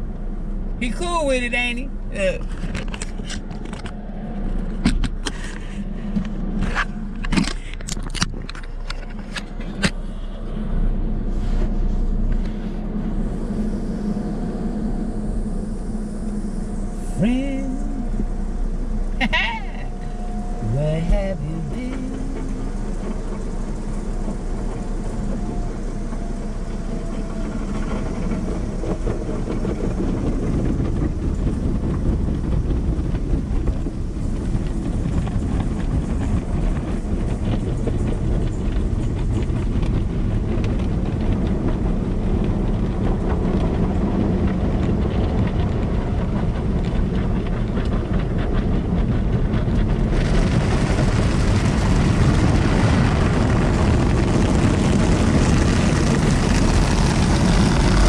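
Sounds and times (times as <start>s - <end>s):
car wash brushes rumbling: 0.0s - 58.0s.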